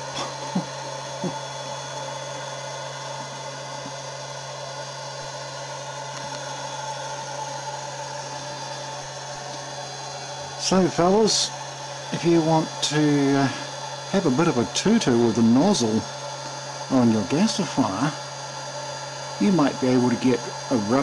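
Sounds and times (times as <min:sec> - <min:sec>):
electric air blower running: 0:00.0 - 0:21.0.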